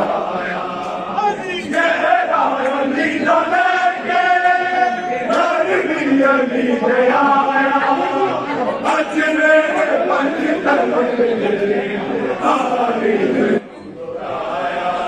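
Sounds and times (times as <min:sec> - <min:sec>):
men chanting and shouting: 0:00.0 - 0:13.6.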